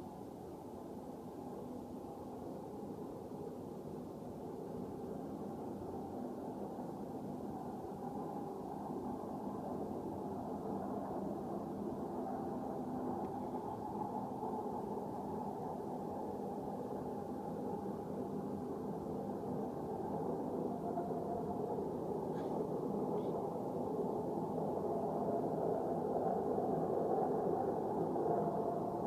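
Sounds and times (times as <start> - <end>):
low roaring drone: 0.6 - 29.0.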